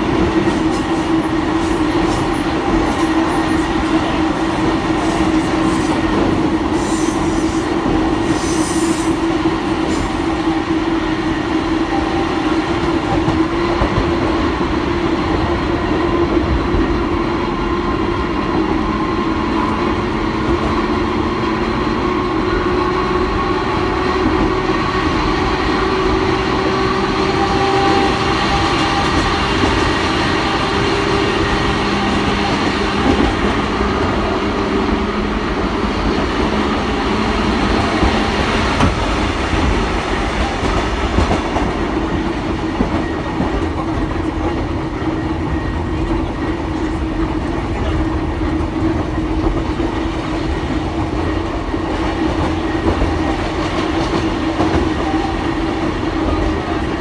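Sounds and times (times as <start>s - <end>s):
electric train rumbling and humming: 0.0s - 57.0s.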